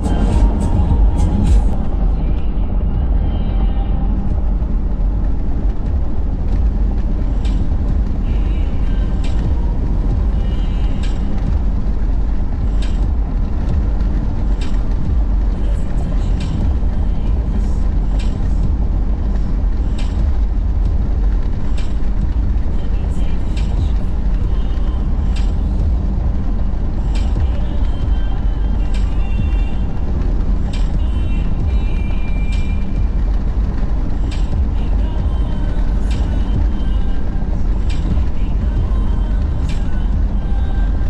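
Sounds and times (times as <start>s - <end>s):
tyre and engine road rumble: 0.0s - 41.0s.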